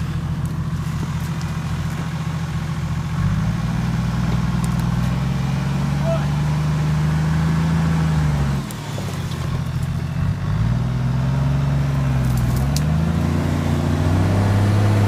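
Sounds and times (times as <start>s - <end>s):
suv engine revving under load: 0.0s - 15.0s.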